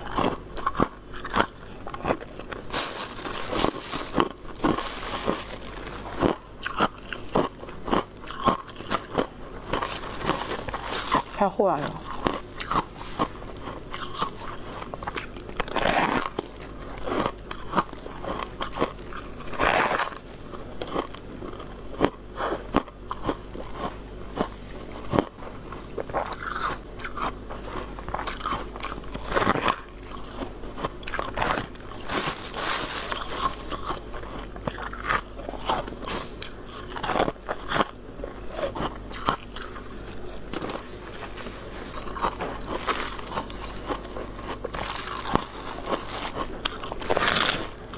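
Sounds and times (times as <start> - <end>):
frost being chewed crunching: 0.0 - 47.9.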